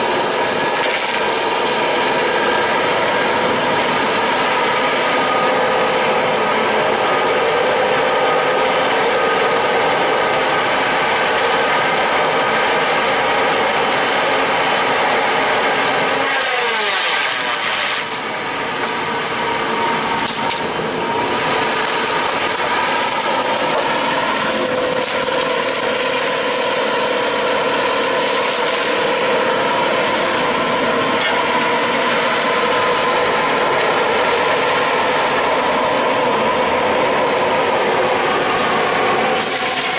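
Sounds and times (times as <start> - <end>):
feller buncher working with saw whine: 0.0 - 39.9
saw cutting through trunk: 0.0 - 39.9.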